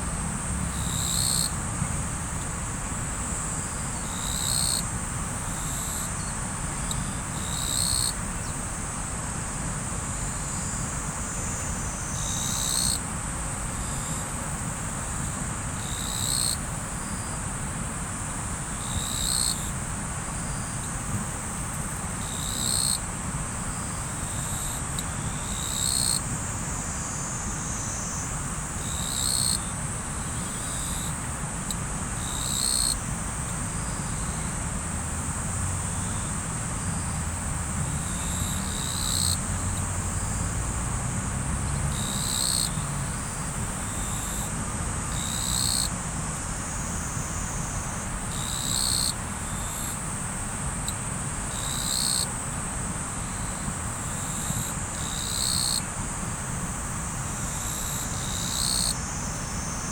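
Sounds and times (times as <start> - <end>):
insects trilling: 0.4 - 1.6, 3.0 - 9.0, 10.1 - 13.0, 13.7 - 17.6, 18.5 - 59.9
short loud insect call: 0.7 - 1.6, 3.1 - 9.0, 10.1 - 13.0, 13.8 - 17.6, 18.6 - 34.6, 35.5 - 41.0, 41.9 - 59.9.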